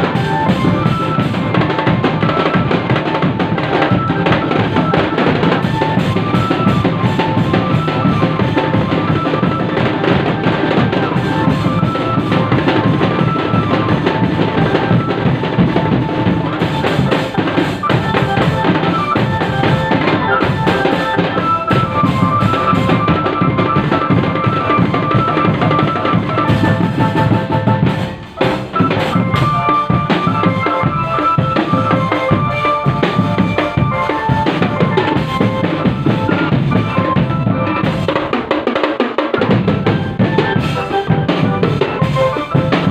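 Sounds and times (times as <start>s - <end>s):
melody of short high notes: 0.0s - 38.2s
drum band playing: 0.0s - 42.9s
snare rolls and rim hits: 0.0s - 42.9s.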